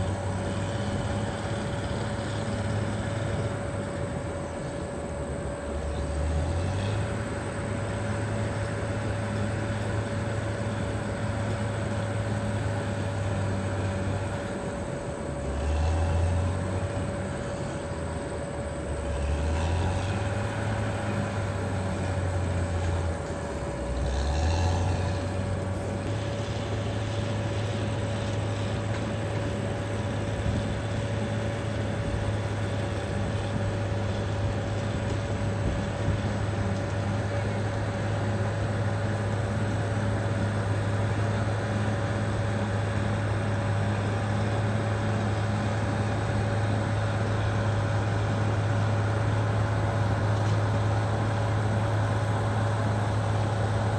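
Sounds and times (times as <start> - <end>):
bulldozer diesel engine running: 0.0 - 53.9
steady whine: 0.0 - 53.9.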